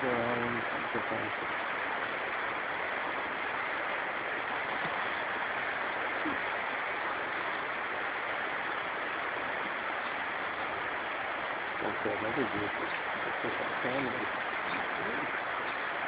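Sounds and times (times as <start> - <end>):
small waves breaking on shore: 0.4 - 16.0.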